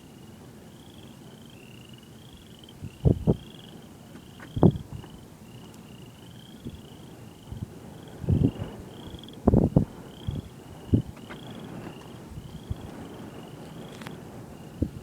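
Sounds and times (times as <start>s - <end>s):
frogs and insects chirping: 0.0s - 15.0s.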